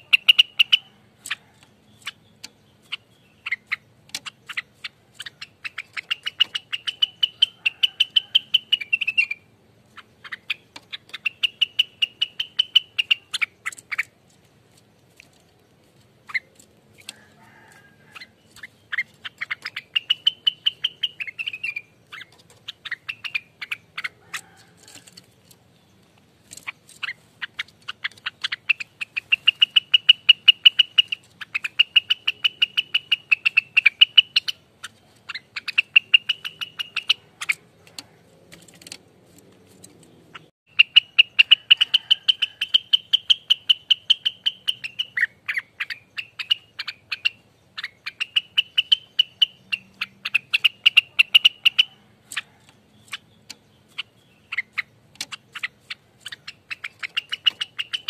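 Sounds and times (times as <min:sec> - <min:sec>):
songbird singing fast sharp notes: 0:00.0 - 0:58.0.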